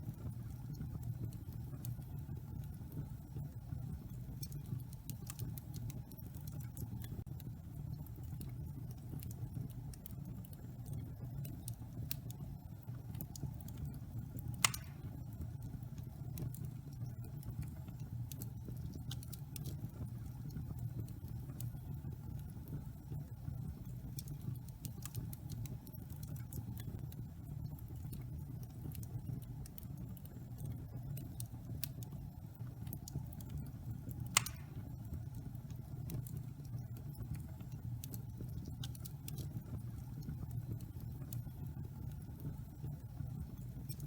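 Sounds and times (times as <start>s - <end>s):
fire crackles and pop: 0.0s - 44.0s.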